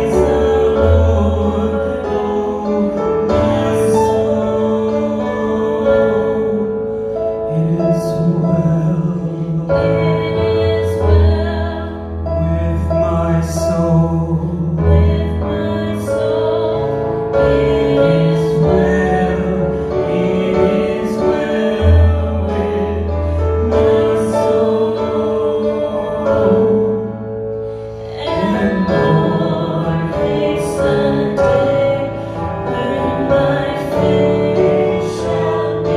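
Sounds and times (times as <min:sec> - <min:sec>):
worship song singing: 0:00.0 - 0:35.9.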